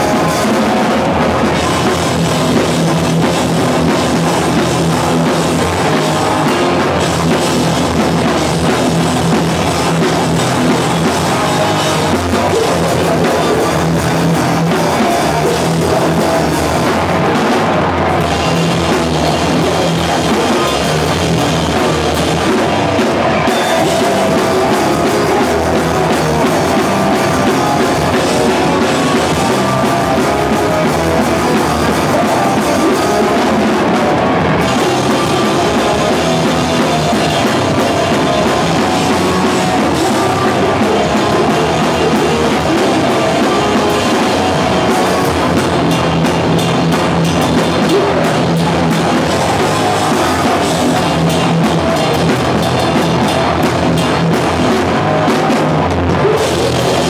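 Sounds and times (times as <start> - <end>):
hardcore band playing live: 0.0 - 57.0.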